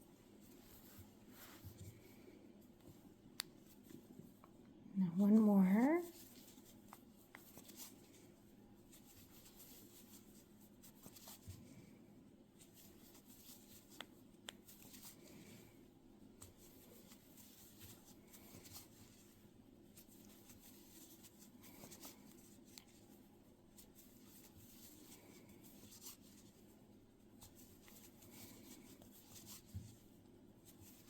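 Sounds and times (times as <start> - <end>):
yarn rustling: 5.2 - 11.9, 12.5 - 31.0.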